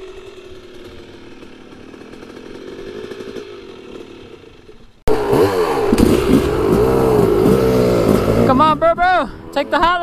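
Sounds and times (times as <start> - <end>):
dirt bike engine buzzing: 0.0 - 10.0
dirt bike engine revving: 0.0 - 10.0.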